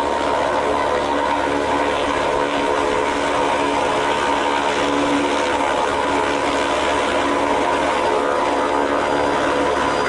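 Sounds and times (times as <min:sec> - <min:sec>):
turboprop engines and propellers: 0:00.0 - 0:10.0.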